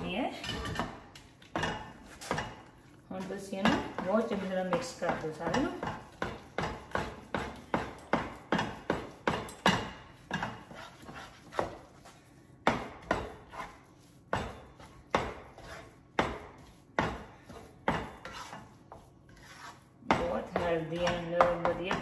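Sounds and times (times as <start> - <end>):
spatula knocking and scraping pan: 0.0 - 22.0.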